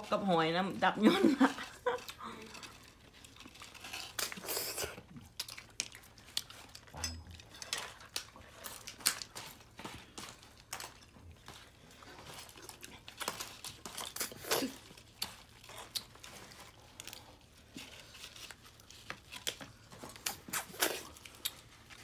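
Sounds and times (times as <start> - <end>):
shellfish shells cracking: 1.8 - 22.0.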